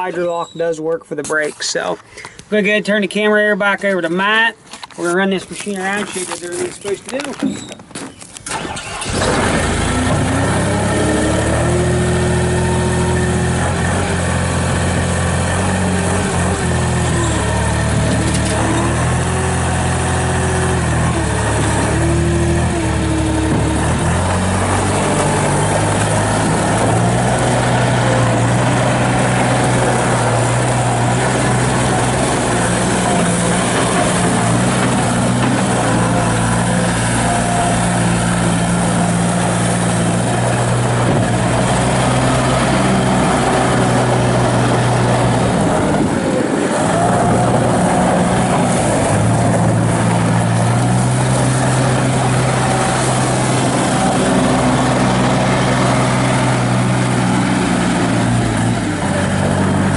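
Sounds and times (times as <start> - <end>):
diesel engine running: 8.4 - 59.9.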